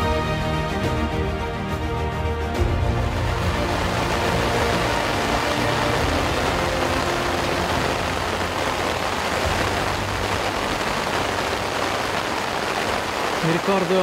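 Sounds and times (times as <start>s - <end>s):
background music: 0.0s - 14.0s
steady rain falling: 0.0s - 14.0s.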